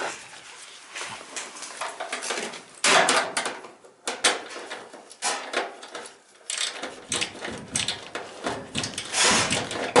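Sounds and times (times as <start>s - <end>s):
rustling and clicking of hands working: 0.6s - 10.0s.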